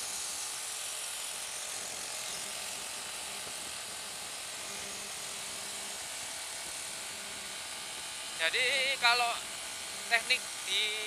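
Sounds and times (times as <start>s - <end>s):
wind and road hiss: 0.0s - 11.0s
faint motorcycle engine hum: 1.8s - 11.0s.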